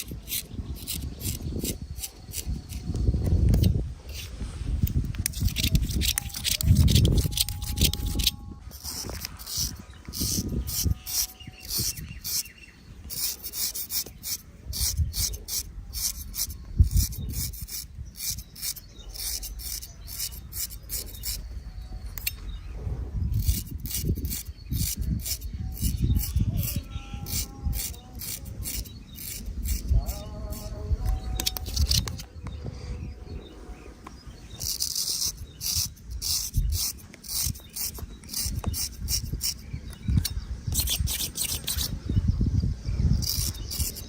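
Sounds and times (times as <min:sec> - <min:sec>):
razor scraping stubble: 0:00.0 - 0:32.6, 0:34.3 - 0:44.0.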